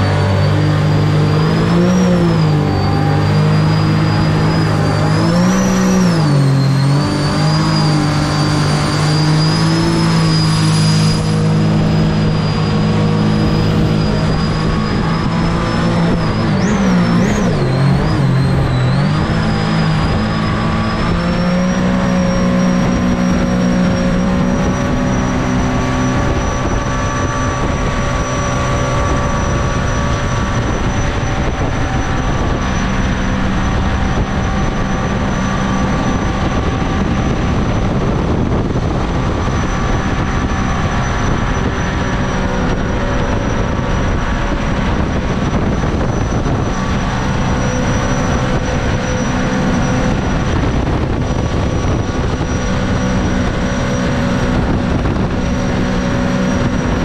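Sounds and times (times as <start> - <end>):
jet boat engine at high speed: 0.0 - 57.0
rush of noise: 0.0 - 57.0
thin high whine: 0.0 - 57.0.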